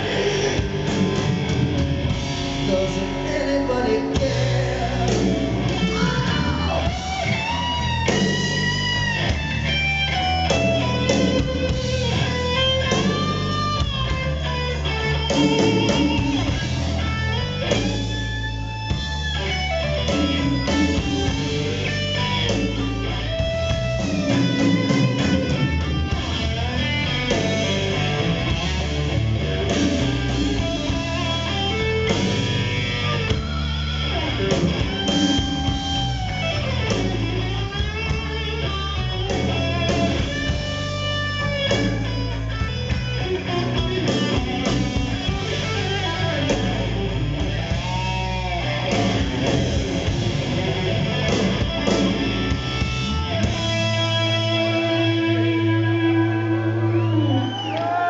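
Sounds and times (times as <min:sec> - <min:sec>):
electric guitar lead: 0:00.0 - 0:58.0
heavy metal band playing live: 0:00.0 - 0:58.0.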